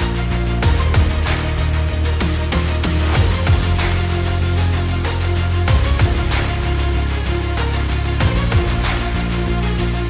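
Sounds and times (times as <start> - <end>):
background music: 0.0 - 10.0
deep sustained bass line: 0.0 - 10.0.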